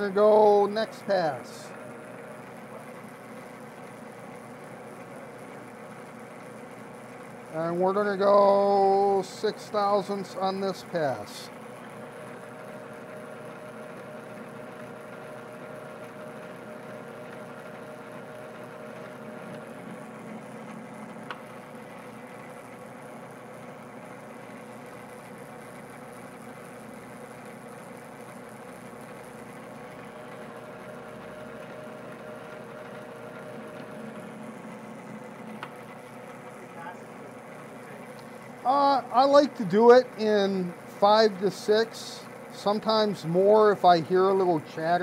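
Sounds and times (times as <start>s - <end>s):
metal lathe running: 0.0s - 45.0s.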